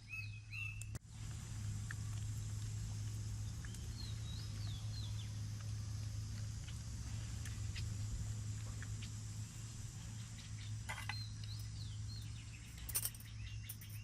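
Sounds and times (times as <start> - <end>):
bird chirps: 0.0 - 1.0, 3.3 - 14.0
steady low hum: 0.0 - 14.0.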